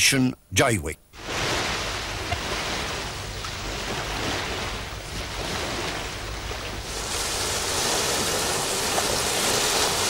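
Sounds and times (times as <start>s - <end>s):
small waves lapping on shore: 1.2s - 10.0s.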